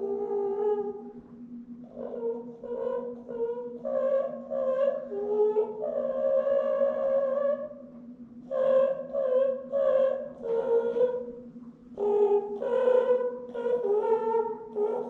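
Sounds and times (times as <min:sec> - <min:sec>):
high-pitched voice humming a tune: 0:00.0 - 0:01.1, 0:01.9 - 0:07.7, 0:08.5 - 0:11.3, 0:12.0 - 0:15.0.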